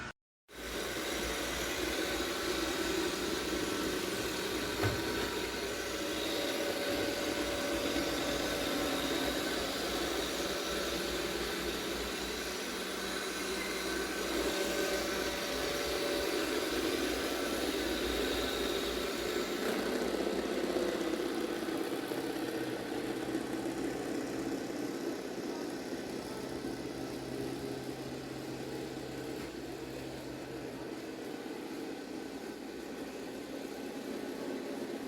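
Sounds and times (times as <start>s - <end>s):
robot vacuum whirring: 0.6s - 35.0s.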